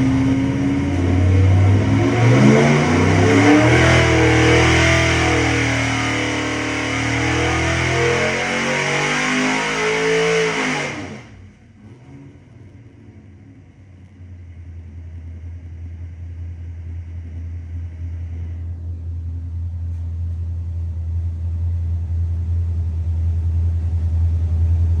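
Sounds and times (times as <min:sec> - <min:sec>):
engine deep rumble: 0:00.0 - 0:09.0, 0:10.9 - 0:25.0.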